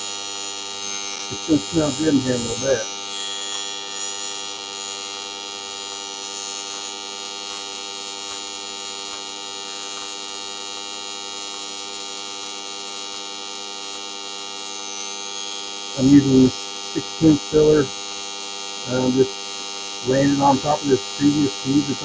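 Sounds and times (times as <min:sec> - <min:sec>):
welding arc buzzing: 0:00.0 - 0:22.0.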